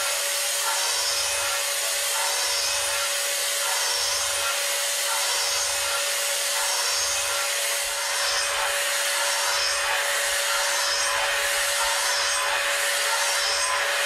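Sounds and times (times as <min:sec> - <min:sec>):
milling machine cutting metal: 0:00.0 - 0:14.0.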